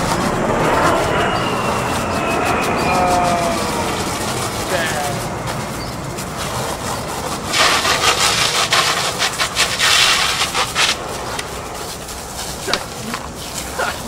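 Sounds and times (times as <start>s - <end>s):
harsh rasping rubbing: 0.0s - 14.0s.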